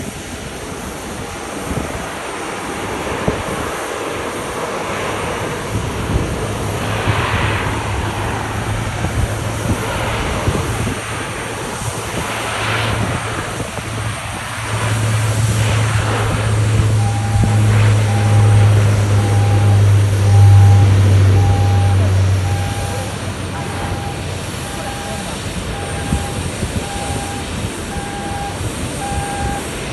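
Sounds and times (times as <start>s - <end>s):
turboprop engines at takeoff power: 0.0s - 29.9s.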